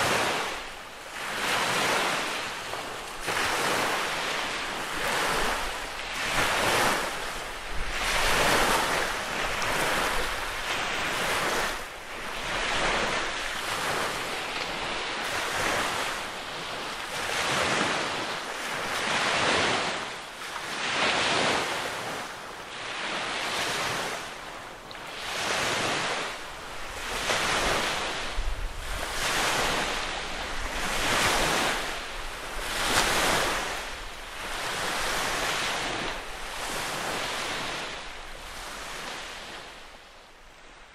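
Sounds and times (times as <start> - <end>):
waves washing onto shore: 0.0 - 40.9.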